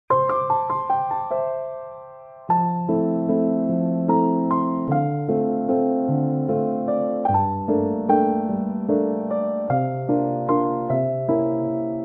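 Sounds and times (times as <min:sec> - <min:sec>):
keyboard music with piano chords: 0:00.1 - 0:12.0.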